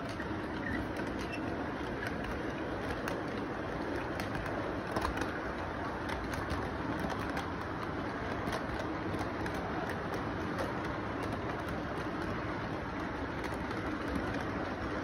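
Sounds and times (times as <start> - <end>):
model train rumbling: 0.0 - 15.0
wheels clicking on track joints: 0.0 - 15.0.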